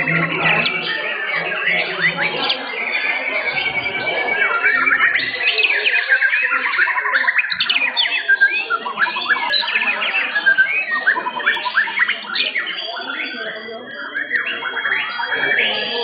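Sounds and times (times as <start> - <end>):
birds singing whistles and chirps: 0.0 - 16.0.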